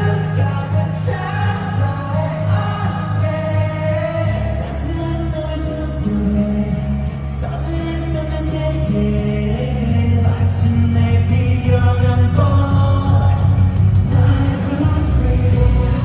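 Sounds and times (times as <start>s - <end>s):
deep bass line: 0.0s - 16.0s
men singing over backing track: 0.0s - 16.0s.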